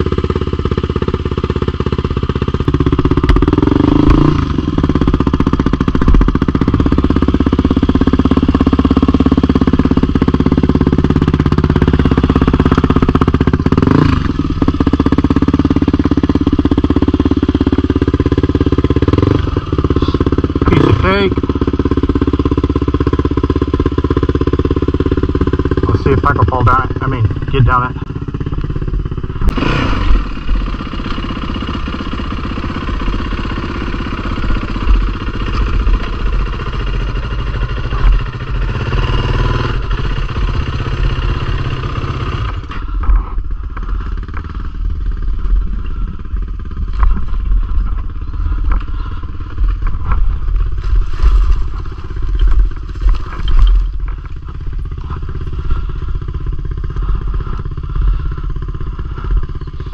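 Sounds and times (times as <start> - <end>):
clatter: 0.0 - 59.9
dirt bike engine running hard: 0.0 - 59.9.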